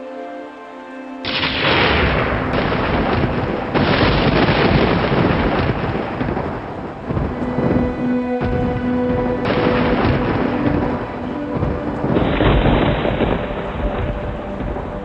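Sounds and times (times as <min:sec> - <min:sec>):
soft relaxing music: 0:00.0 - 0:15.0
thunder clap and rumble: 0:01.3 - 0:15.0.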